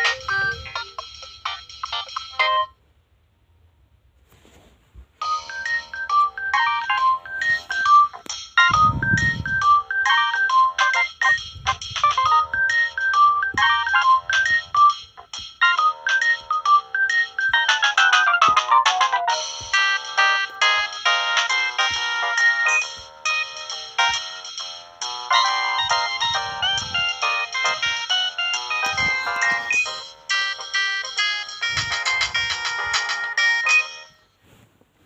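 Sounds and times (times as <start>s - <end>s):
phone ringtone melody: 0.0s - 2.8s, 5.2s - 34.3s.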